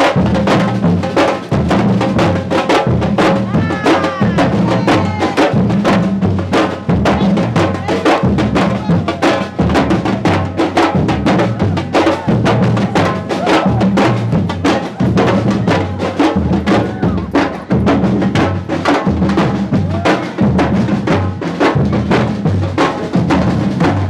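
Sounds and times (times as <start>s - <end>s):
busy drum beat: 0.0s - 24.0s.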